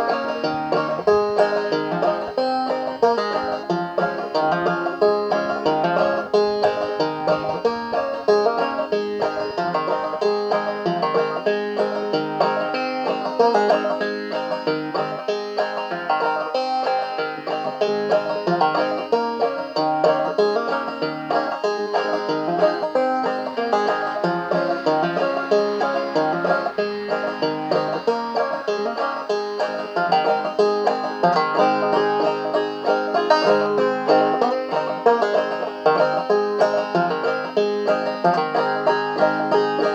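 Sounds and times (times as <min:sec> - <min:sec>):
banjo playing clawhammer style: 0:00.0 - 0:39.9.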